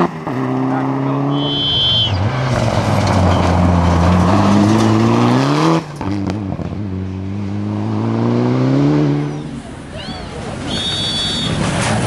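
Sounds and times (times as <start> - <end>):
rally car engine pulling hard: 0.0 - 12.0.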